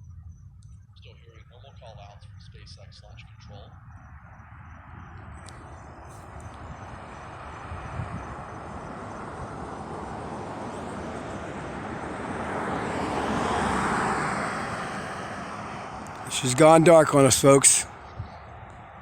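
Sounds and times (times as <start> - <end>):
distant rocket engine rumble: 0.0 - 19.0.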